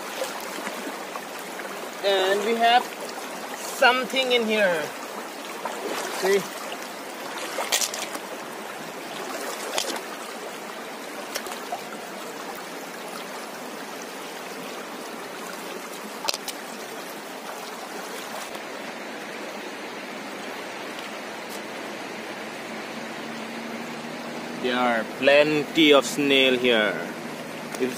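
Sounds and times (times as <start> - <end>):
river water running over stones: 0.0 - 27.9.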